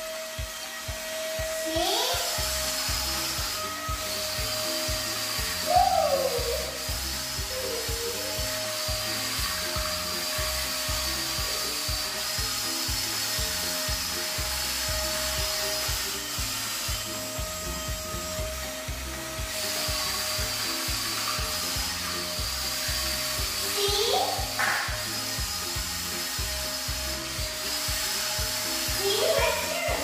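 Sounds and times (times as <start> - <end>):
background music with steady beat: 0.0 - 30.0
toy car electric motor whine: 0.0 - 30.0.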